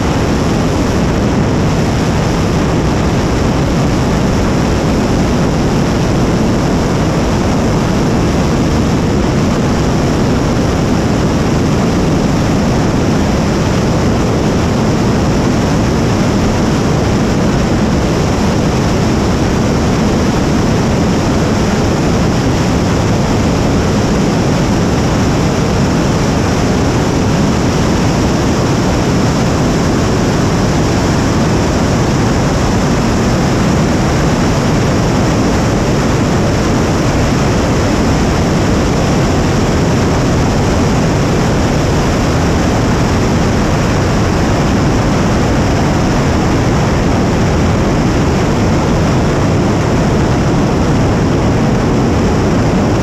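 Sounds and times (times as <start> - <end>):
rocket engine rumbling: 0.0 - 53.0.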